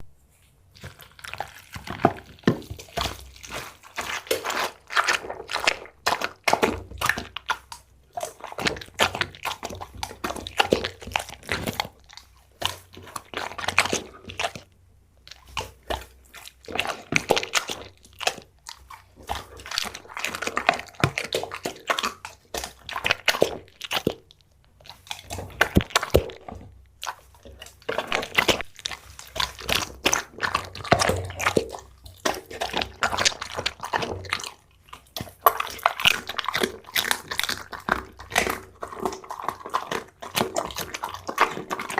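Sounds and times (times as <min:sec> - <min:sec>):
pet chewing and crunching: 0:00.7 - 0:41.9.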